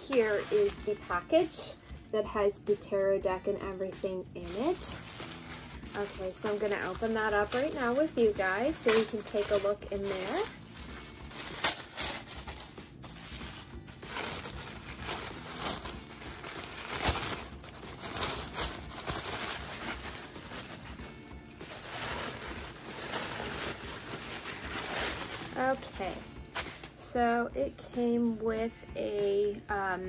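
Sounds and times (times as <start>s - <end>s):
tissue paper crinkling: 0.0s - 2.0s, 4.0s - 27.0s.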